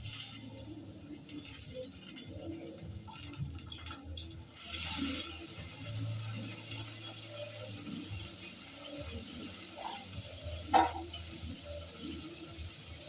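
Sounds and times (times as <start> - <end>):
steady watery hiss: 0.0 - 13.0.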